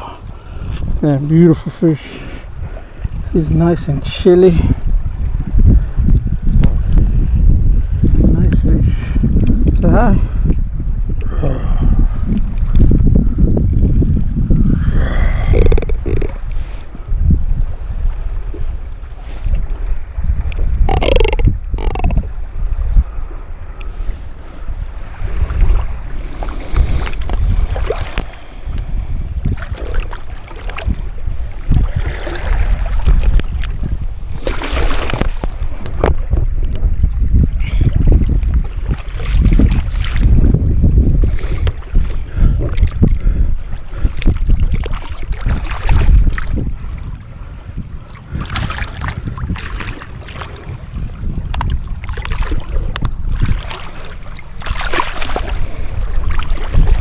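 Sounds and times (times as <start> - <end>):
water sounds: 0.0 - 47.4, 48.0 - 57.0
wind buffeting microphone: 0.0 - 57.0.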